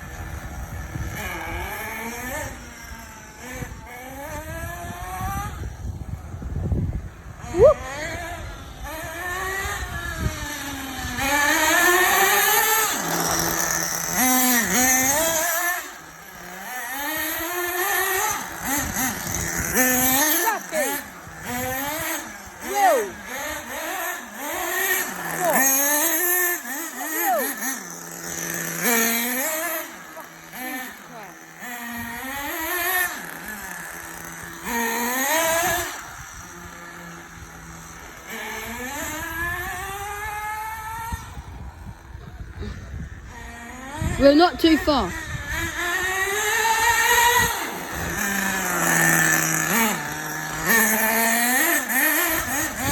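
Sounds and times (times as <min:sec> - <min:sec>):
rc car engine revving: 0:00.0 - 0:52.9.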